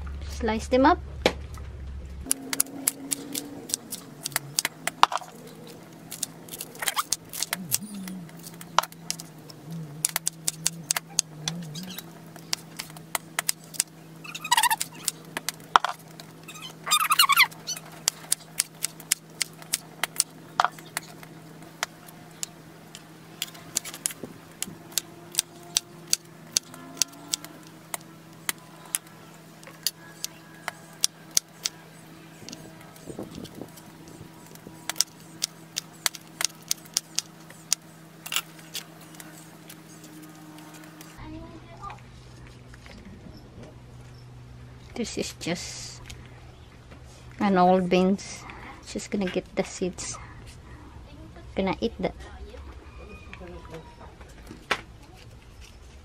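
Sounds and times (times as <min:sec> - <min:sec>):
steady low hum: 0:00.0 - 0:53.1.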